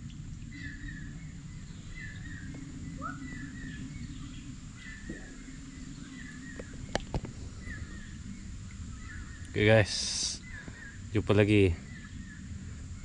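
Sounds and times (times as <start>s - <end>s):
low outdoor rumble: 0.0s - 13.0s
thin high hum: 0.0s - 13.0s.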